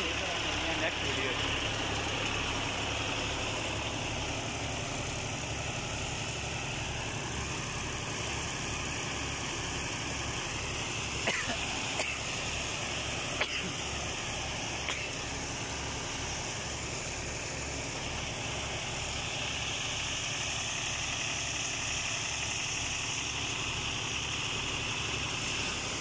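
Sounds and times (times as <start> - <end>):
tractor diesel engine throbbing: 0.0 - 26.0.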